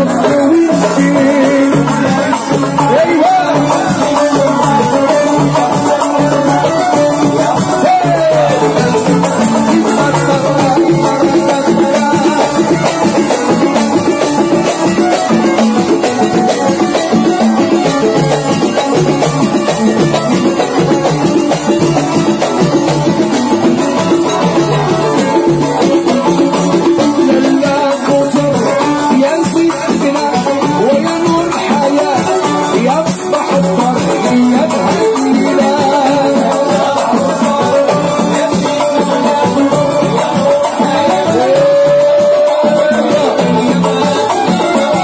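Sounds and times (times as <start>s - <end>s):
continuous melody: 0.0s - 45.0s
hand drums beating a rhythm: 0.0s - 45.0s.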